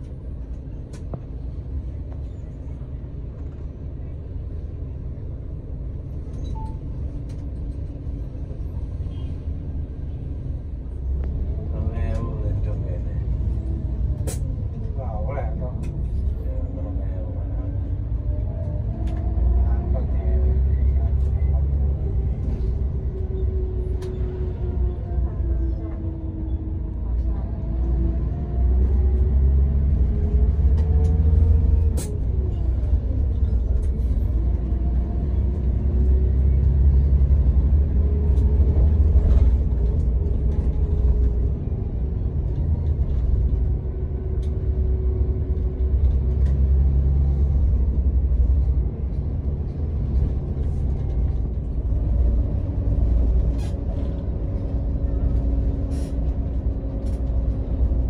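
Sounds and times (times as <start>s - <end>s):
bus engine rumbling: 0.0s - 58.0s.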